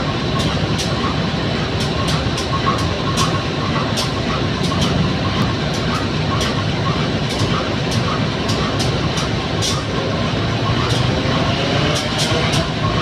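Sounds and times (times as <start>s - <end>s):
train rumbling: 0.0s - 13.0s
sharp clicks and knocks: 0.3s - 13.0s.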